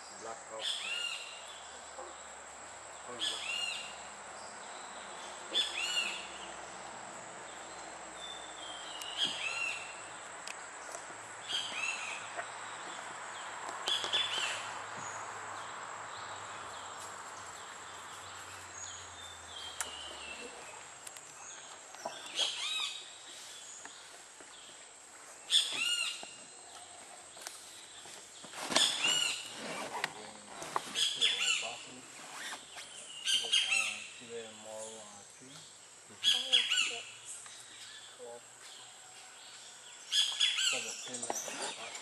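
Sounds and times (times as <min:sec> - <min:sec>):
birds ringing calls: 0:00.0 - 0:42.0.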